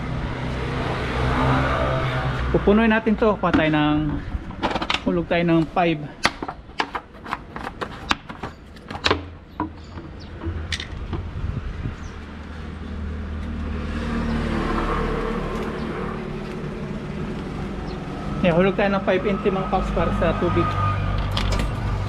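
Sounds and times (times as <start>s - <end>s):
road vehicle passing: 0.0s - 6.8s, 9.4s - 22.0s.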